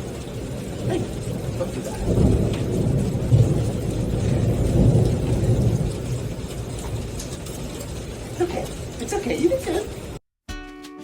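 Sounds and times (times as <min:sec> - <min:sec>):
thunder rumbling: 0:00.0 - 0:10.2.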